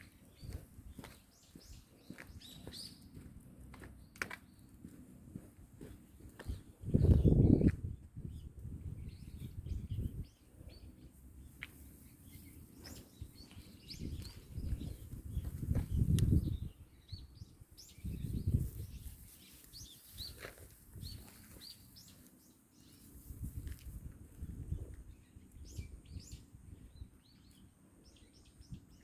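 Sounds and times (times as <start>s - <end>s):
wind buffeting microphone: 0.0s - 11.0s, 12.7s - 22.1s, 23.1s - 27.5s, 28.1s - 29.0s
small birds chirping: 0.0s - 29.0s.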